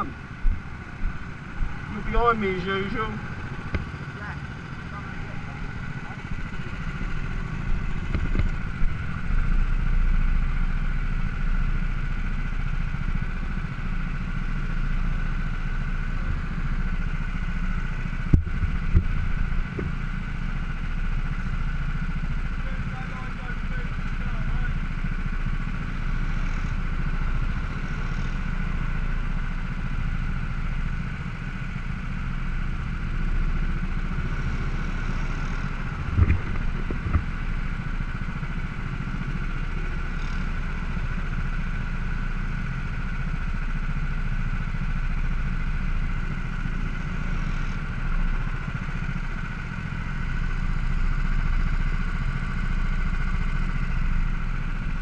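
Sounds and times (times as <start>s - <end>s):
go-kart engines idling: 0.0s - 55.0s.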